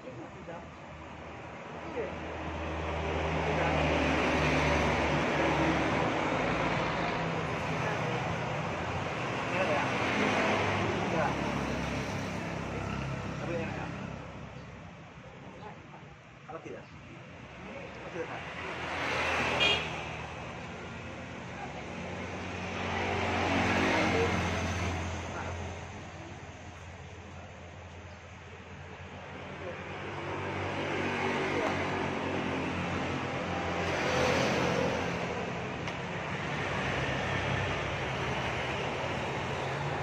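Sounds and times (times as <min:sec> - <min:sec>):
passing vehicle engine hum: 0:02.0 - 0:14.7, 0:17.5 - 0:40.0.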